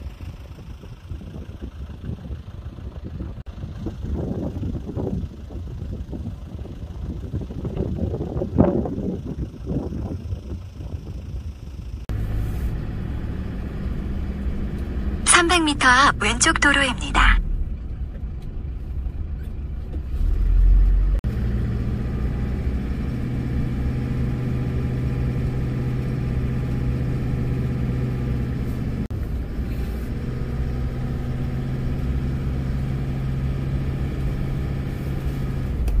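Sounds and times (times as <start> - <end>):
car engine drone: 0.0 - 36.0
road rumble: 0.0 - 36.0.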